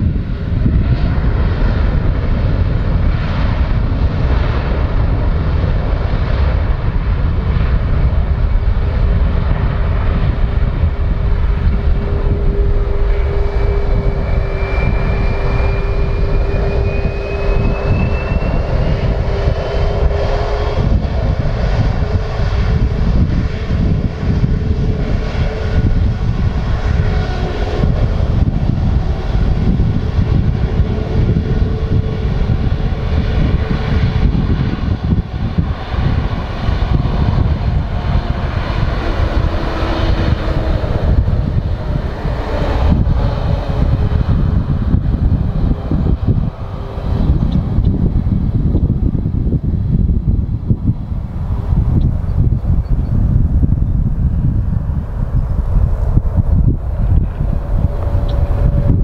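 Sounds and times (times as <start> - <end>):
jet engine whine: 0.0 - 59.0
jet engines rumbling: 0.0 - 59.0.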